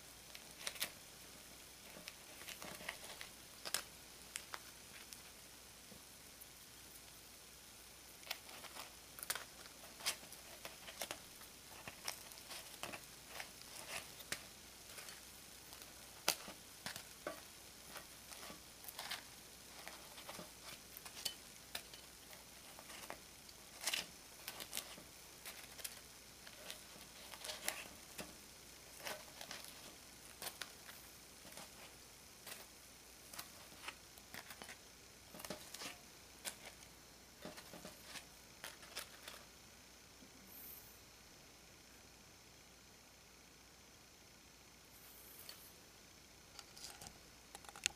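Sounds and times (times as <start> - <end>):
faint steady hiss: 0.0 - 47.9.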